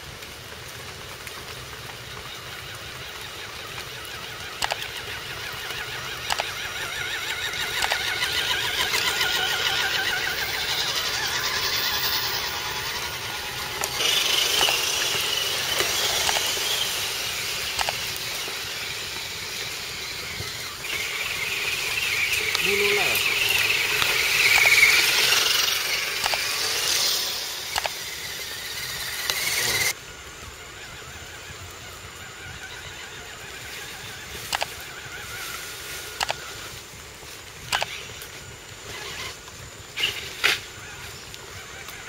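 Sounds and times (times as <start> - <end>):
electric motor whining: 1.8 - 36.9.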